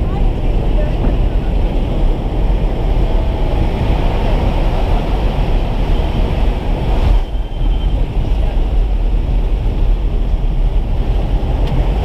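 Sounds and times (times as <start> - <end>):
aircraft engine and wind rush: 0.0 - 12.0.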